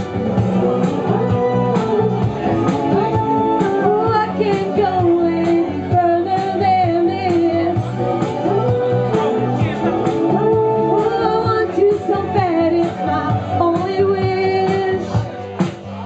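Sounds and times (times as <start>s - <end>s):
woman singing into microphone: 0.0s - 15.5s
pop backing track: 0.0s - 16.0s.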